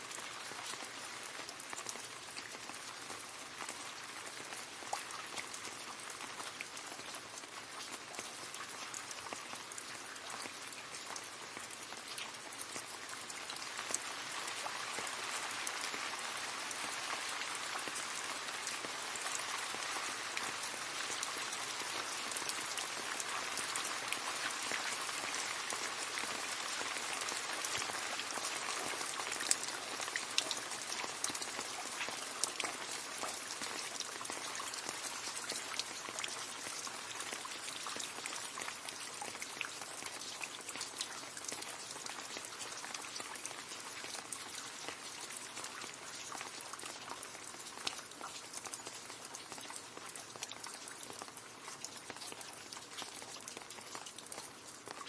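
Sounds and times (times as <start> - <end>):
rain falling into a puddle: 0.0 - 55.0.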